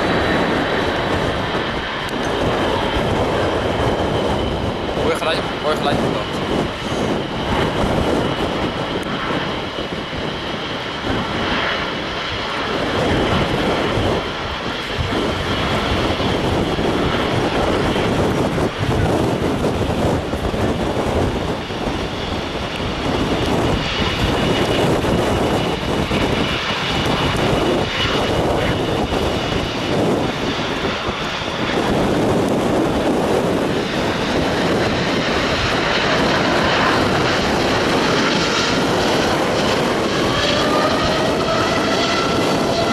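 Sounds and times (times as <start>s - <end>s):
jet engines roaring: 0.0s - 42.9s
wind buffeting microphone: 0.0s - 42.9s.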